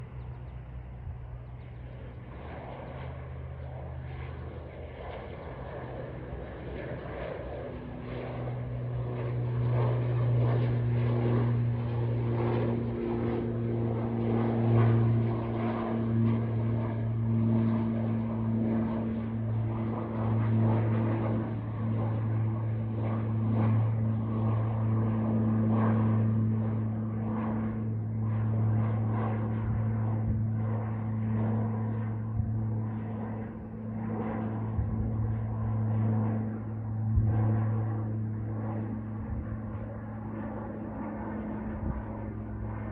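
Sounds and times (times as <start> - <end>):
propeller engine drone: 0.0 - 42.9.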